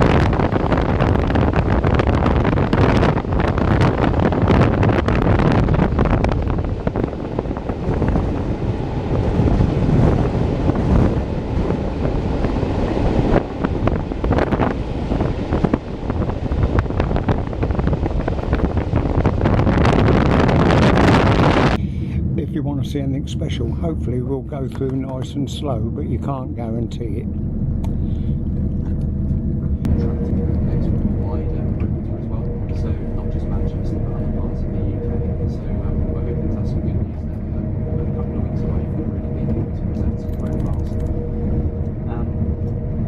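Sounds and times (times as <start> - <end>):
train rumbling on track: 0.0 - 43.0
wind buffeting microphone: 0.0 - 43.0.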